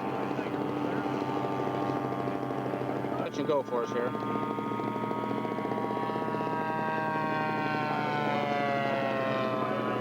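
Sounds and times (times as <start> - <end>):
model airplane engine buzzing: 0.0 - 10.0.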